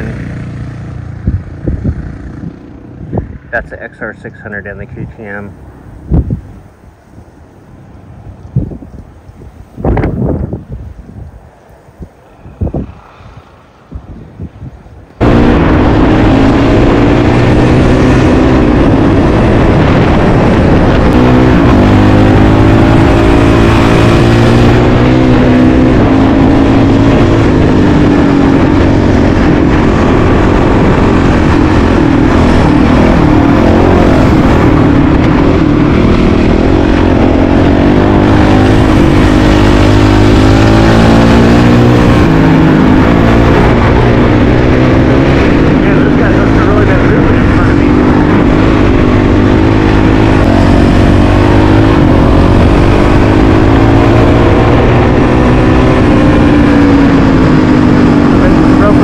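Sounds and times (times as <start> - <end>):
motorcycle engine revving: 0.0 - 6.9, 15.1 - 59.0.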